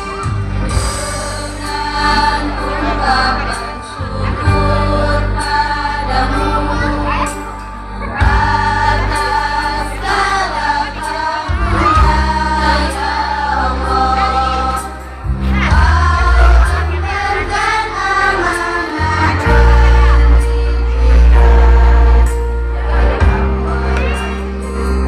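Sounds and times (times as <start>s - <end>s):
choir singing in unison: 0.0s - 24.7s
instrumental accompaniment with bass: 0.0s - 25.0s.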